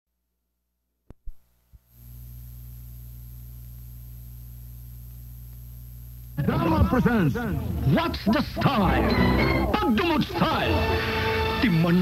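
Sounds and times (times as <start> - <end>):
low mains hum: 0.4 - 11.0
tape hiss: 1.1 - 12.0.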